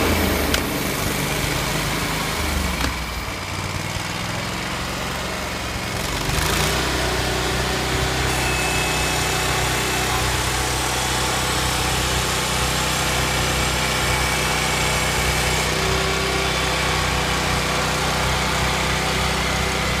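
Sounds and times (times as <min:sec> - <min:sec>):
petrol engine running: 0:00.0 - 0:20.0.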